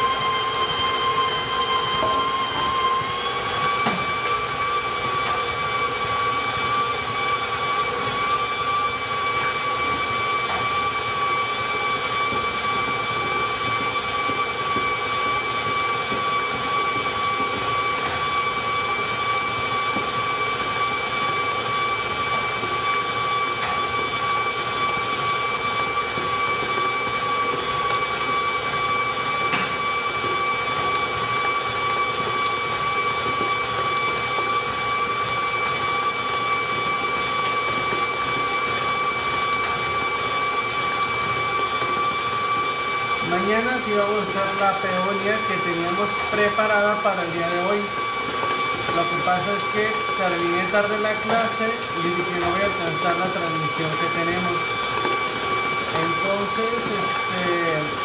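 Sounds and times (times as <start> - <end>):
stand mixer motor whine: 0.0 - 58.0.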